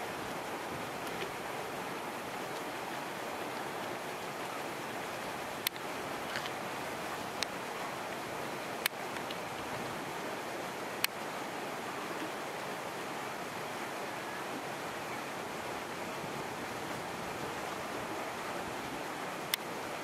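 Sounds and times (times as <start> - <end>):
outdoor hiss: 0.0 - 20.0.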